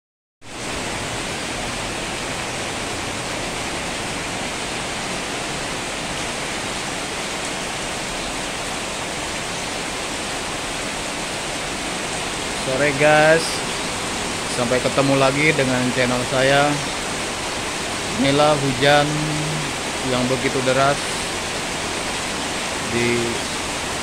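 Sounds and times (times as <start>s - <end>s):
heavy rain pouring: 0.4s - 24.0s.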